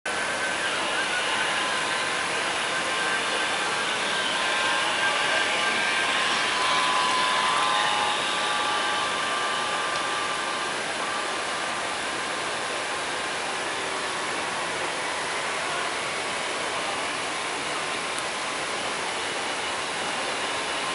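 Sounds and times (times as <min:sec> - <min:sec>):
faint high whine: 0:00.1 - 0:20.9
motorboat engine: 0:00.1 - 0:20.9
water rushing: 0:00.1 - 0:20.9
wind: 0:00.1 - 0:20.9.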